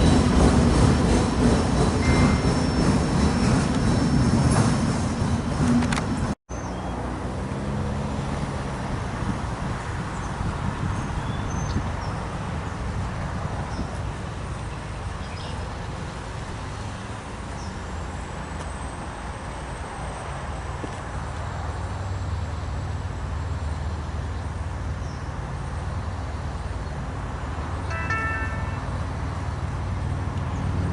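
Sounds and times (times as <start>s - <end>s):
passing train rumble: 0.0s - 30.9s.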